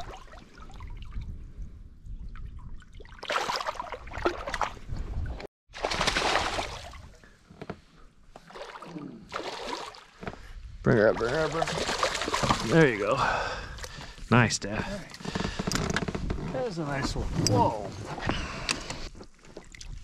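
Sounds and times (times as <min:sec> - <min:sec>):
water splashing and sloshing: 0:00.0 - 0:16.9, 0:19.0 - 0:20.0.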